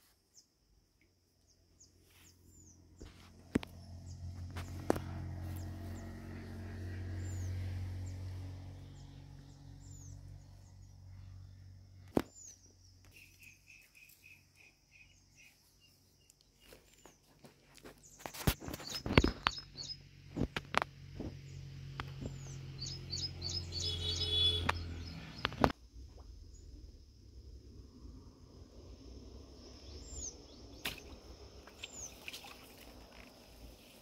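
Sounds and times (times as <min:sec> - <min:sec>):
small birds chirping: 0:01.4 - 0:25.8, 0:29.6 - 0:34.0.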